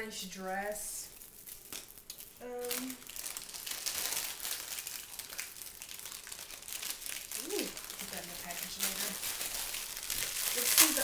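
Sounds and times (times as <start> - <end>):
plastic packaging crinkling: 1.1 - 11.0.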